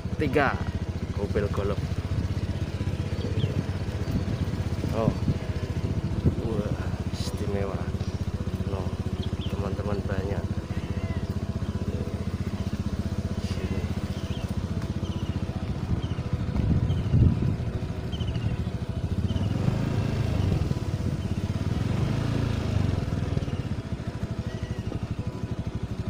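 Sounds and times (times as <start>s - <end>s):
motorcycle engine rumbling: 0.0s - 26.0s.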